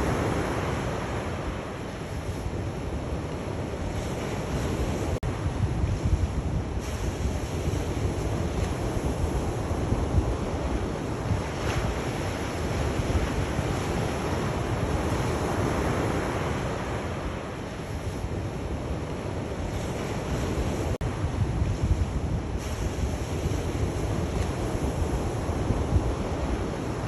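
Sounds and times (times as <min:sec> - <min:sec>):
sea waves washing in: 0:00.0 - 0:27.0
wind buffeting microphone: 0:00.0 - 0:27.0.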